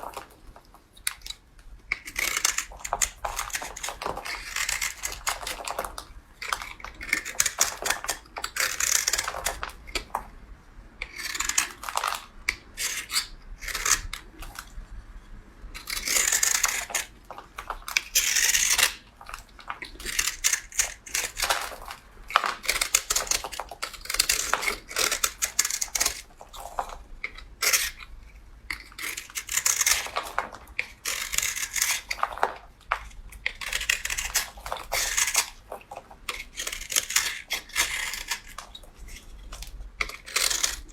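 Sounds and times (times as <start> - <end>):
blade scraping through soap: 0.0 - 10.4, 11.0 - 14.7, 15.7 - 40.9.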